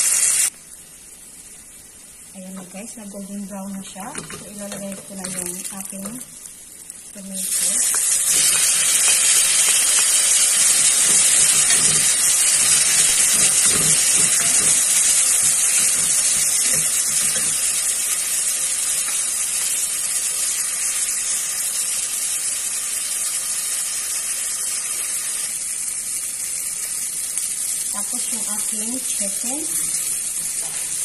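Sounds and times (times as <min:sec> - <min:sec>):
tomatoes sizzling in hot oil: 0:00.0 - 0:31.0.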